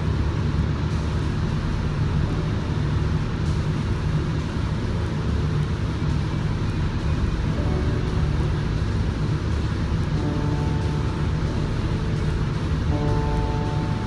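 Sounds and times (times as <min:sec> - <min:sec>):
spray booth ventilation rumble: 0:00.0 - 0:14.0
spray gun air hiss: 0:00.0 - 0:14.0.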